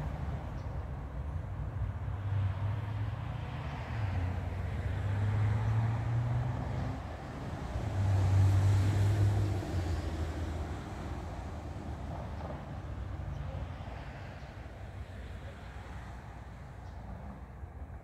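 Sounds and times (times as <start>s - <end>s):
low rumble of distant traffic: 0.0s - 18.0s.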